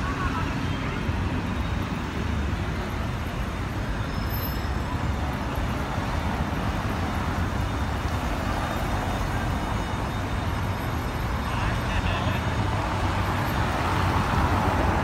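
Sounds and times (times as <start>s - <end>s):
cars driving on cobblestones: 0.0s - 15.0s.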